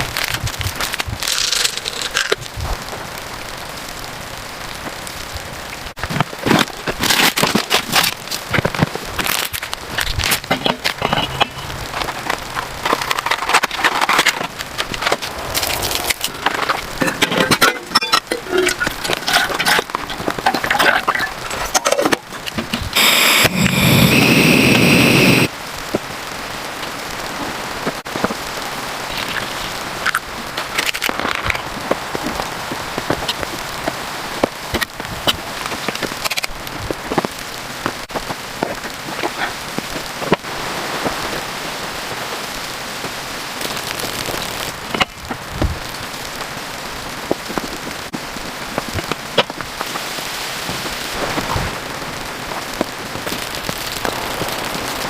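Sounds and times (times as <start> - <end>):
rain falling on a surface: 0.0 - 23.0, 25.5 - 55.0.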